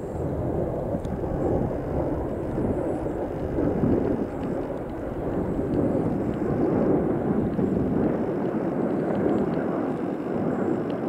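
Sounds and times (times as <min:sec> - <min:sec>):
distant jet engines roaring: 0:00.0 - 0:11.0.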